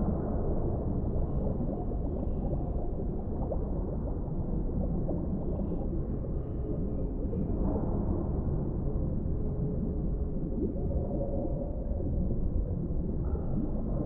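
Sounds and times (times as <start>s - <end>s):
underwater low rumble: 0.0s - 14.0s.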